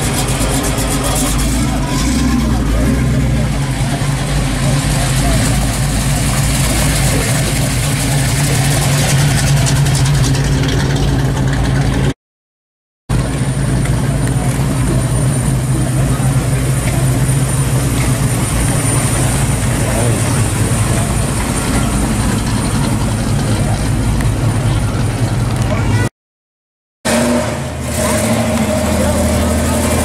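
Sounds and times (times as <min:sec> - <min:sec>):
car engines idling: 0:00.0 - 0:12.2, 0:13.1 - 0:26.1, 0:27.1 - 0:30.0.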